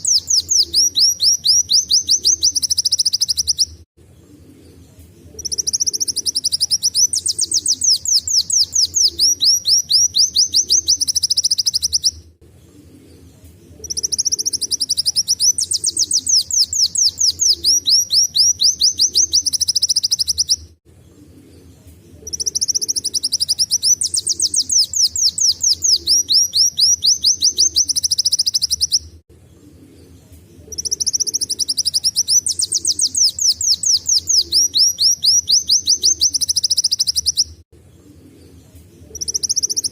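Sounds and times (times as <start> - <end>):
sunbird singing rapid trills: 0.0 - 3.8, 5.4 - 12.2, 13.8 - 20.6, 22.2 - 29.1, 30.7 - 37.6, 38.4 - 39.9.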